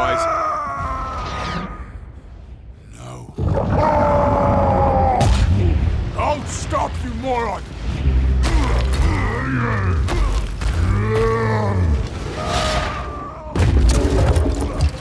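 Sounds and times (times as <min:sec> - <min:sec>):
low rumbling booms: 0:01.9 - 0:15.0.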